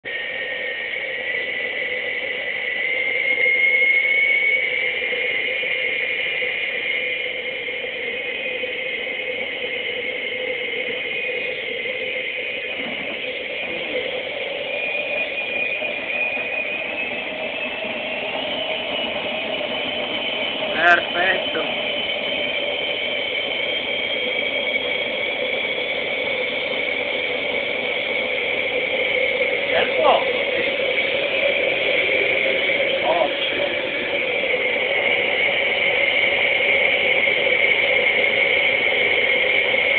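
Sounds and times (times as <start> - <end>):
ramjet hissing and whistling: 0.0 - 39.9.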